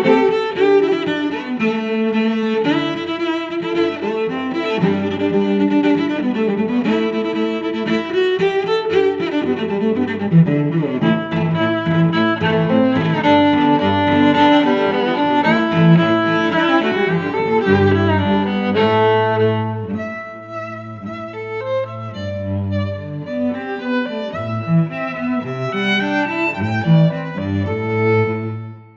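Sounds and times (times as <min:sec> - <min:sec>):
cello and violin playing: 0:00.0 - 0:28.9.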